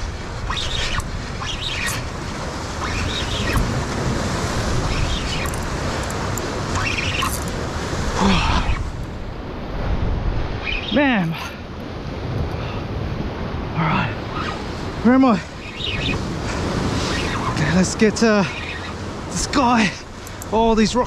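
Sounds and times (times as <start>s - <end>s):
waves breaking against rock: 0.0s - 13.7s, 14.6s - 21.0s
wind buffeting microphone: 0.0s - 21.0s.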